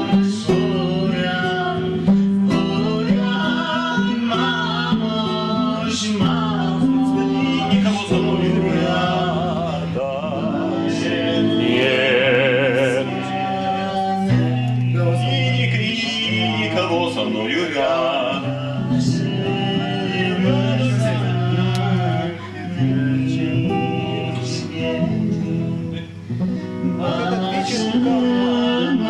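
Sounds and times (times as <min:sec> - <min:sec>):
person singing slow song: 0:00.0 - 0:29.0
plucked acoustic guitar: 0:00.0 - 0:29.0.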